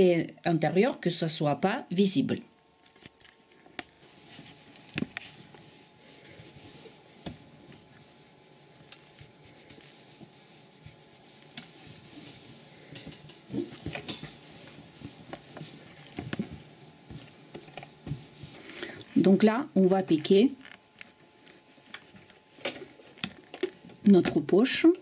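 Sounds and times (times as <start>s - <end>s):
fabric rustling under iron: 3.4s - 23.5s.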